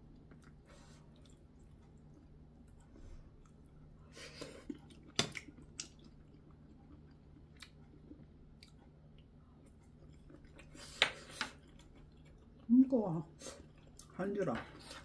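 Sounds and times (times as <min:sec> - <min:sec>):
person chewing: 0:00.1 - 0:12.8, 0:13.4 - 0:14.2.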